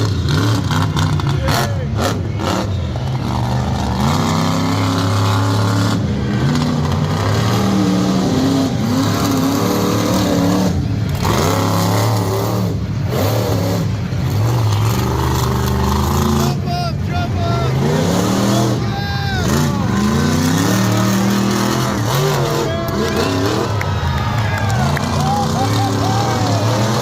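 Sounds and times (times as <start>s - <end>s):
truck engine revving hard: 0.0s - 27.0s.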